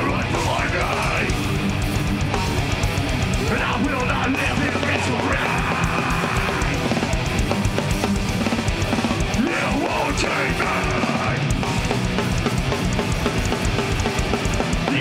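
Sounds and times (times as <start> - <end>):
distorted electric guitars: 0.0 - 15.0
drum kit: 0.0 - 15.0.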